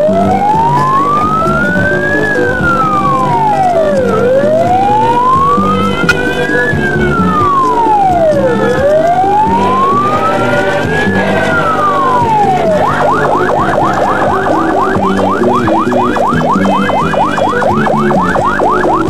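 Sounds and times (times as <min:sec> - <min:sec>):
electronic siren wailing: 0:00.0 - 0:19.0
large crowd noise: 0:00.0 - 0:19.0.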